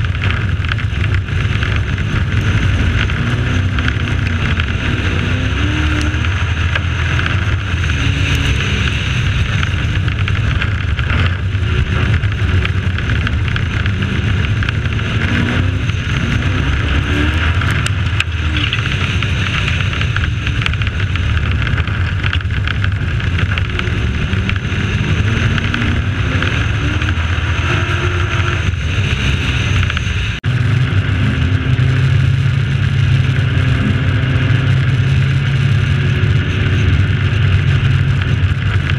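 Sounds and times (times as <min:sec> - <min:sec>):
steady rushing noise: 0:00.0 - 0:38.9
truck engine running hard: 0:00.0 - 0:38.9.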